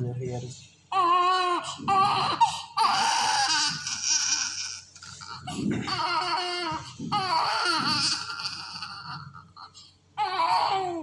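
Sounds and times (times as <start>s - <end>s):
baby crying in wavering wails: 0.9s - 11.0s.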